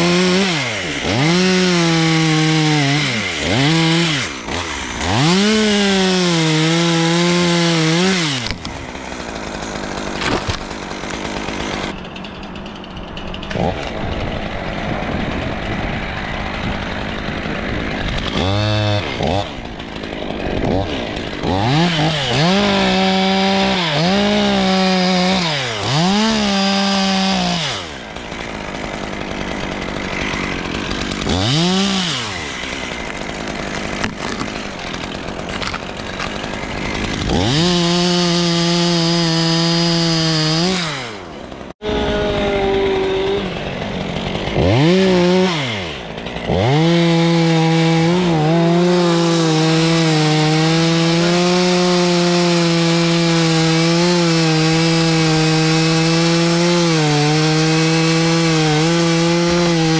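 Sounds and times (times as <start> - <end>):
chainsaw revving and cutting: 0.0 - 59.9.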